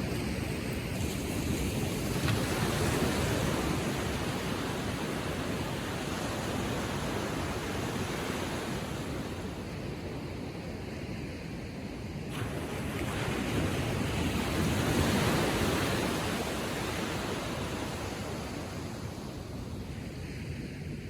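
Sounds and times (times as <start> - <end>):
waves lapping on shore: 0.0 - 21.0.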